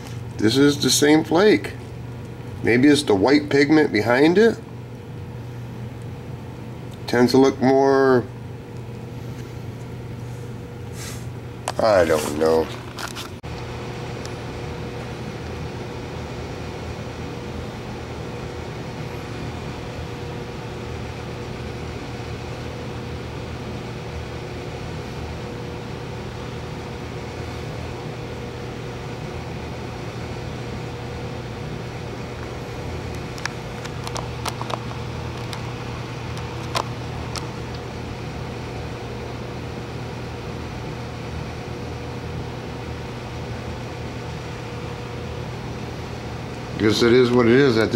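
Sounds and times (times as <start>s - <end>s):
machine hum: 0.0s - 47.9s.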